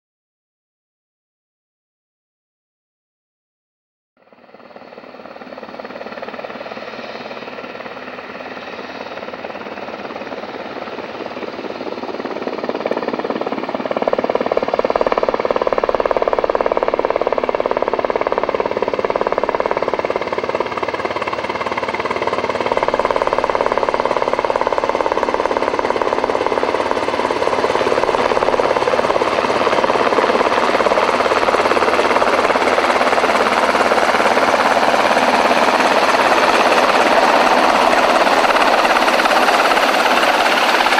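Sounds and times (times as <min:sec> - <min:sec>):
helicopter rotor and engine: 0:04.2 - 0:40.9.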